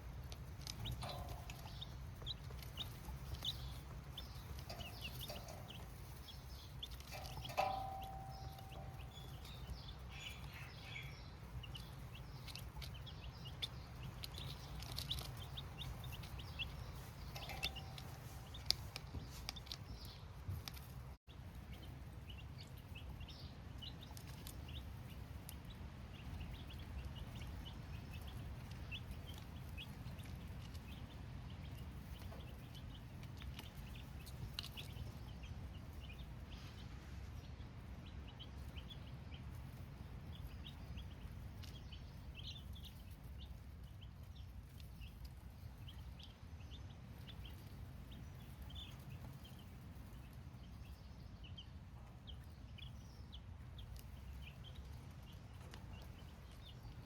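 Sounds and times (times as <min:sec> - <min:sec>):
baby chicks cheeping: 0:00.0 - 0:57.0
low steady hum: 0:00.0 - 0:57.0.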